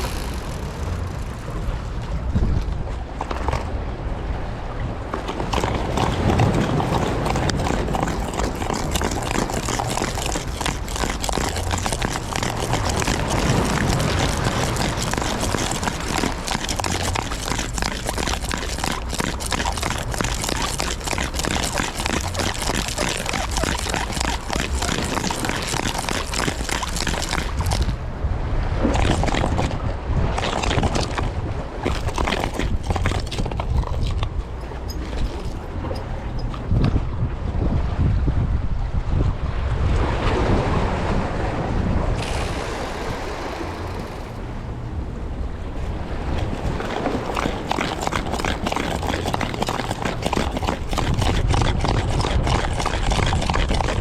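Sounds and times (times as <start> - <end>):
water sloshing and splashing: 0.0 - 37.5, 42.1 - 54.0.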